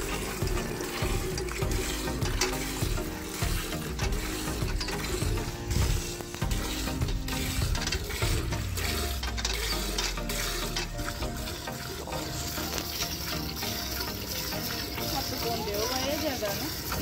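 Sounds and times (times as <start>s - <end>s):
milk squirting into steel bucket: 0.0s - 17.0s.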